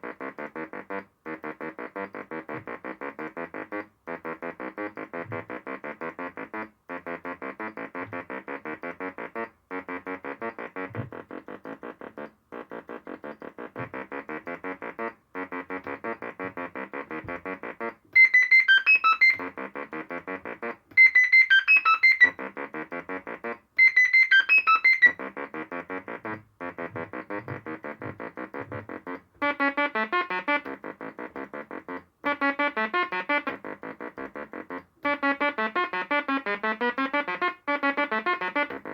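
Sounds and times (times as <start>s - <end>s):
synthesizer sequence of short notes: 0.0s - 38.9s.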